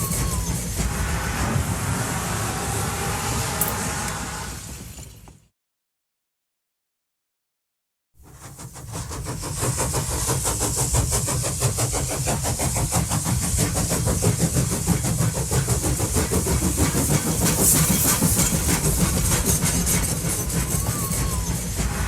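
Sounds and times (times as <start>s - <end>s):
locomotive working hard: 0.0s - 5.4s, 8.3s - 22.0s.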